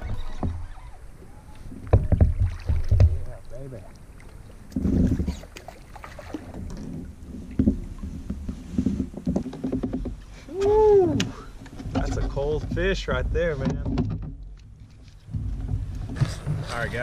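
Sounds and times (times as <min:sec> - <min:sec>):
water splashing: 0:00.0 - 0:17.0.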